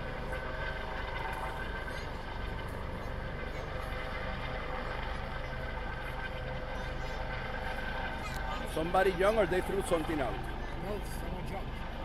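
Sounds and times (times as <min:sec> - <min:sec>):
mechanical drone with whine: 0:00.0 - 0:12.0.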